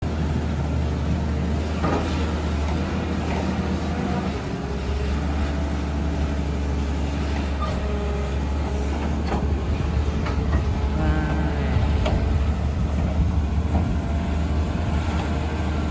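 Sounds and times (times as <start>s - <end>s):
excavator diesel engine droning: 0.0s - 15.9s.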